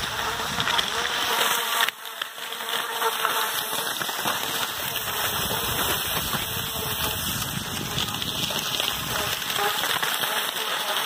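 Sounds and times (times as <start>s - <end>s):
skis sliding over packed snow: 0.0s - 11.0s.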